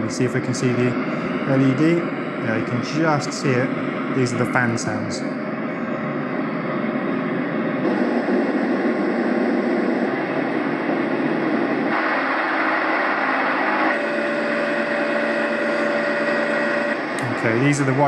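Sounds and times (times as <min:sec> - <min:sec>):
white noise machine fan sounds: 0:00.0 - 0:18.0.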